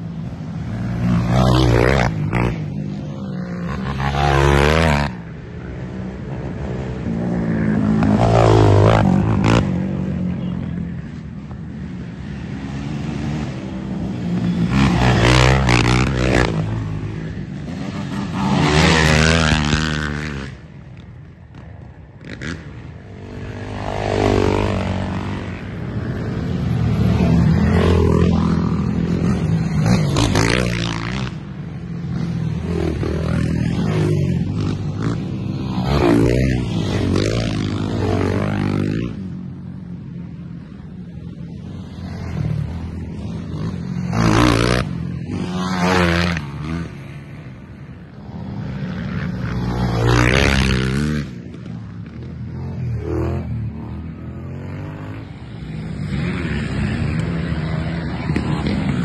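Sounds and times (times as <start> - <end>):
quad engines passing at speed: 0.0 - 59.0.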